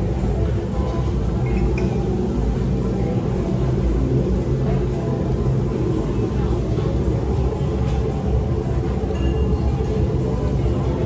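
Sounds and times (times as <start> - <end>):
faint voices: 0.0 - 11.0
low ambient rumble: 0.0 - 11.0.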